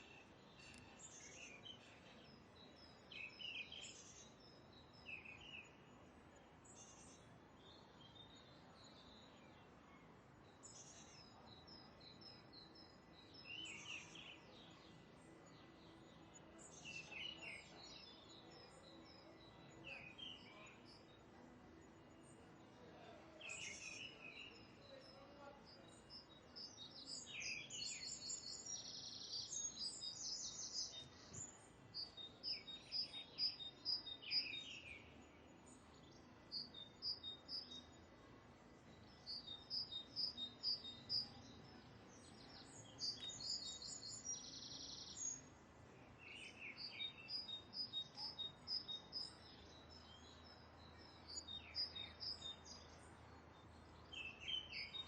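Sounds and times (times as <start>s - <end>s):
bird chirping song: 0.0s - 55.0s.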